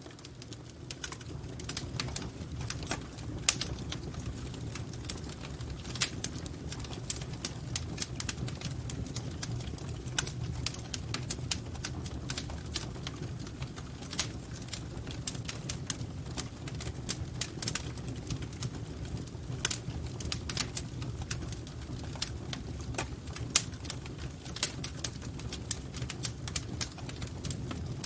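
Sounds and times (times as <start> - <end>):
low fire rumble: 0.0 - 28.0
wood fire crackling: 0.0 - 28.0.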